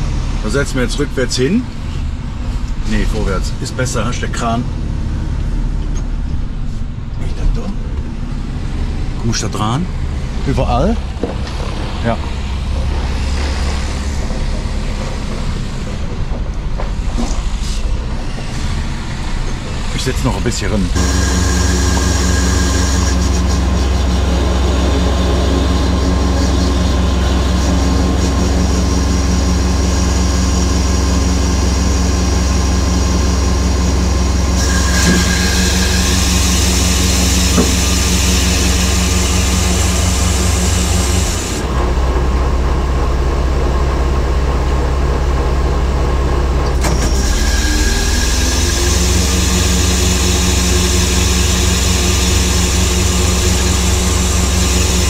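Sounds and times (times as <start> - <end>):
truck engine drone: 0.0 - 55.0.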